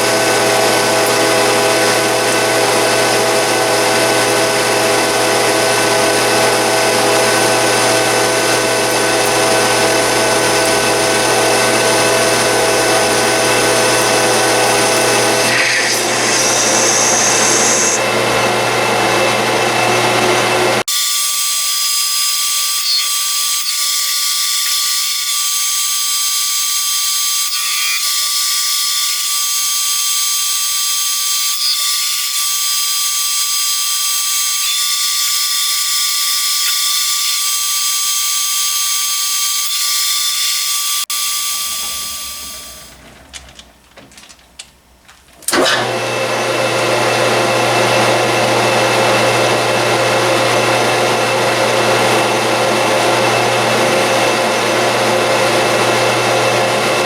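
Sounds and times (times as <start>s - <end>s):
metal lathe whining: 0.0s - 43.1s, 45.5s - 57.0s.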